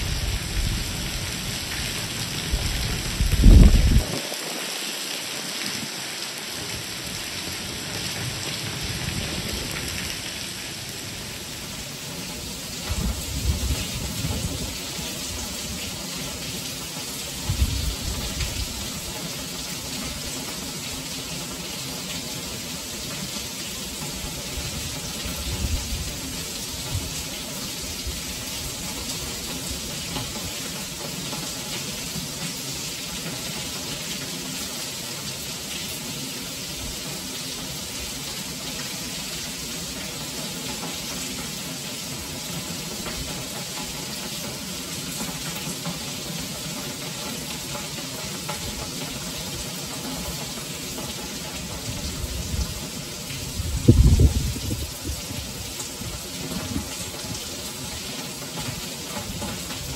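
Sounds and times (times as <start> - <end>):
heavy rain on stone pavement: 0.0 - 59.9.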